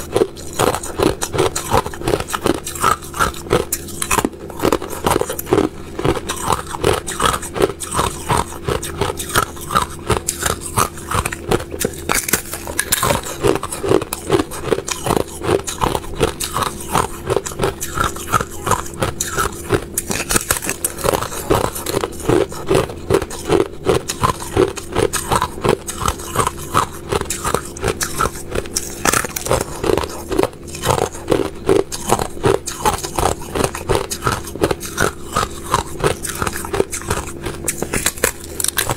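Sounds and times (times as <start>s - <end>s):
ice being chewed and crunched: 0.0s - 38.9s.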